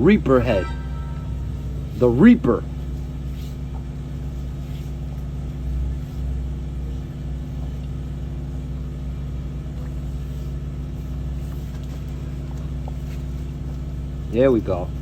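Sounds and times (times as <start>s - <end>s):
water jetter engine droning: 0.0s - 15.0s.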